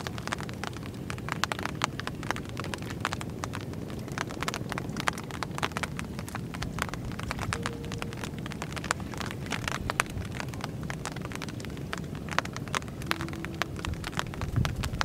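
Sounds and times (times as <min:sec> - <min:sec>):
raindrops tapping on microphone: 0:00.0 - 0:15.0
wind rumble on microphone: 0:00.0 - 0:15.0.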